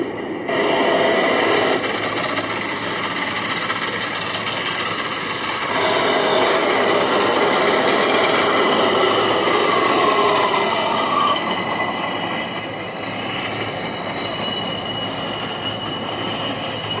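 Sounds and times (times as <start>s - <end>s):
subway train running on tracks: 0.0s - 17.0s
faint wheel squeal: 0.6s - 17.0s.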